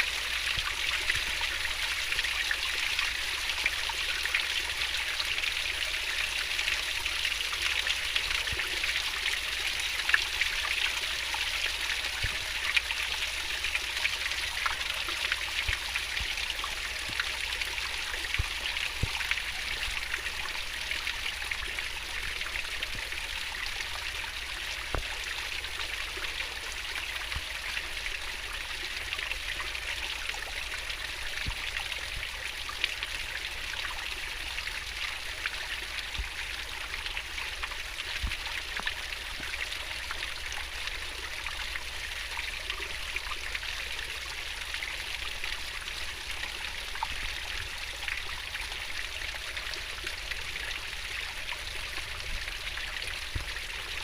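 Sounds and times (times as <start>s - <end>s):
stream water running over rocks: 0.0s - 54.0s.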